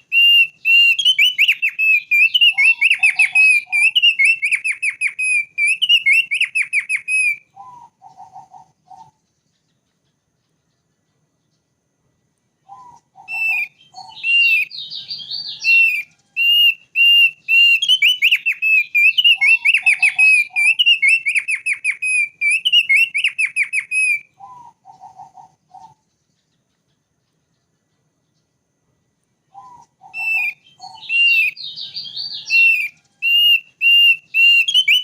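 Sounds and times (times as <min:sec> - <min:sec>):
bird singing whistled trills: 0:00.0 - 0:11.8, 0:12.6 - 0:28.6, 0:29.4 - 0:35.0.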